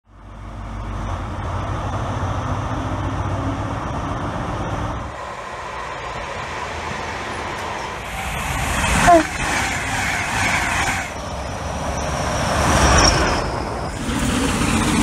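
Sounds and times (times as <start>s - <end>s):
diesel train engine humming: 0.1s - 15.0s
electric train rumbling: 0.1s - 15.0s.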